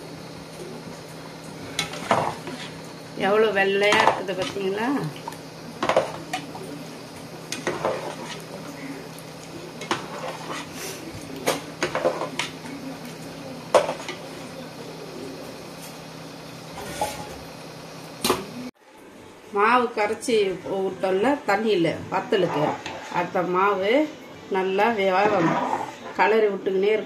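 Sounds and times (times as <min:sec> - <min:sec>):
steady low hum: 0:00.0 - 0:26.7.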